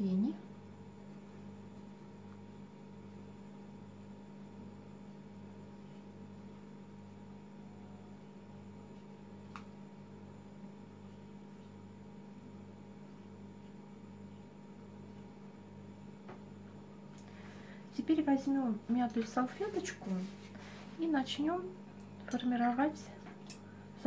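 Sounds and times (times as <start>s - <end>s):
low electrical hum with hiss: 0.0s - 24.0s.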